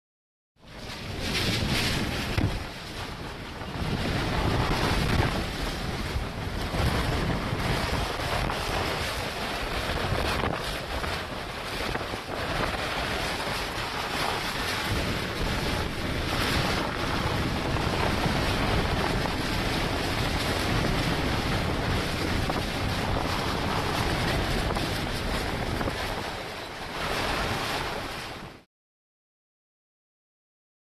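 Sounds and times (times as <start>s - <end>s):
strong wind rushing: 0.6s - 28.6s
wind battering microphone: 0.6s - 28.6s.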